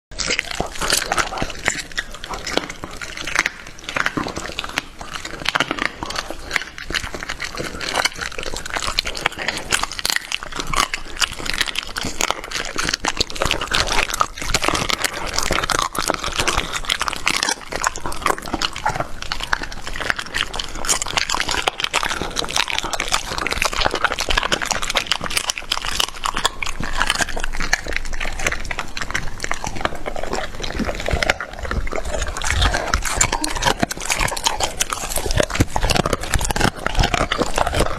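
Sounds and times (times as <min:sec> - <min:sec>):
dog chewing meat: 0:00.1 - 0:37.9.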